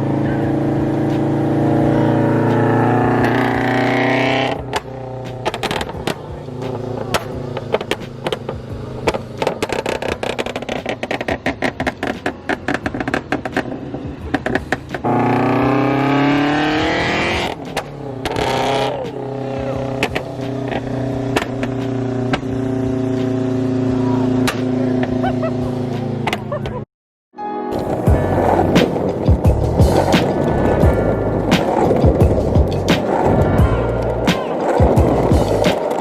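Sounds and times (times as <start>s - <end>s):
car engine revving: 0.0s - 26.8s, 27.8s - 36.0s
exhaust crackles and pops: 2.4s - 26.7s, 27.8s - 36.0s.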